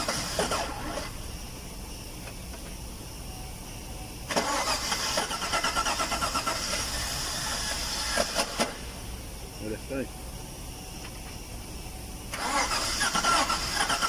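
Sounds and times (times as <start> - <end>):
car engine cranking and starting: 0.0 - 3.2, 4.2 - 9.5, 10.9 - 14.0.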